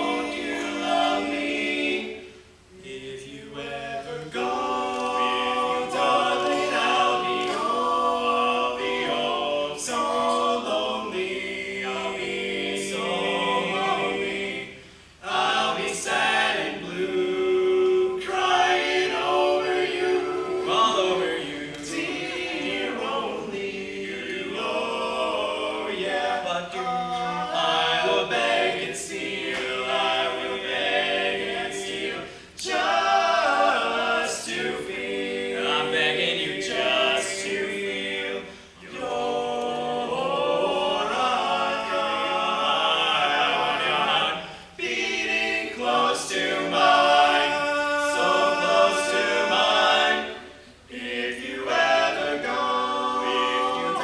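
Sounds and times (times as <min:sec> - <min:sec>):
male quartet singing a cappella: 0:00.0 - 0:54.0.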